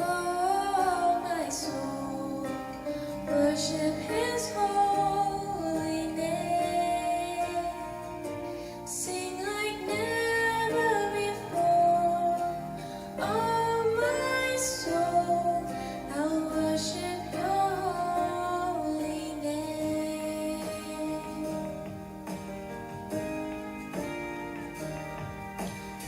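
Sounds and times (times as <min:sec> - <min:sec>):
woman singing: 0:00.0 - 0:22.0
guitar accompaniment: 0:00.0 - 0:26.0.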